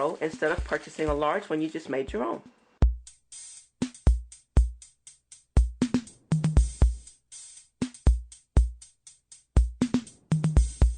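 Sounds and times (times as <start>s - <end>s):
drum machine beat: 0.0s - 1.4s, 2.0s - 10.9s.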